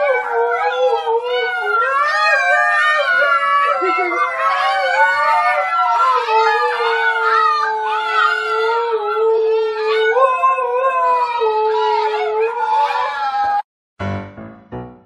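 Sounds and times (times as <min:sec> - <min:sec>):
dogs howling together: 0:00.0 - 0:13.6.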